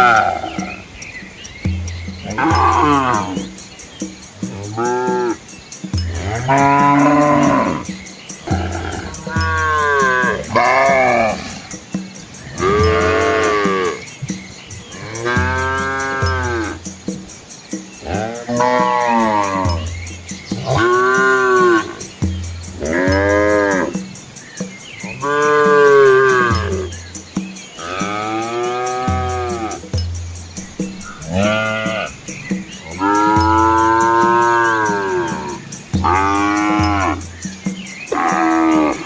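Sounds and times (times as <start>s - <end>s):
cows mooing: 0.0s - 0.8s, 2.2s - 3.5s, 4.4s - 16.8s, 18.0s - 19.9s, 20.5s - 22.2s, 22.8s - 24.1s, 25.1s - 27.0s, 27.8s - 29.9s, 30.9s - 39.0s.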